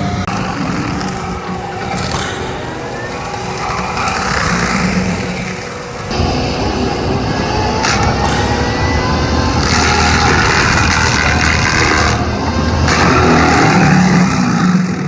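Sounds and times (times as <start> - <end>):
diesel engine under load: 0.0 - 15.0
mulching head rushing noise: 0.0 - 15.0.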